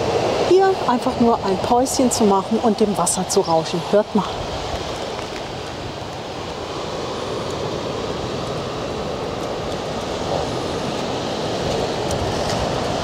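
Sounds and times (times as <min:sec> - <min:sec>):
waves rushing on beach: 0:00.0 - 0:13.0
wind on microphone: 0:00.0 - 0:13.0.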